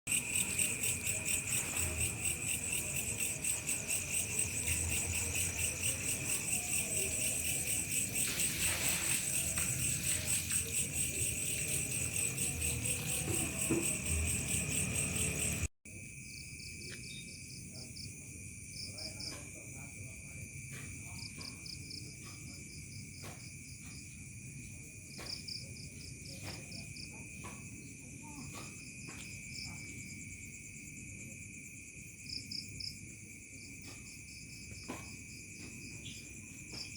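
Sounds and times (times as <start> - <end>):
crickets chirping: 0.1 - 36.9.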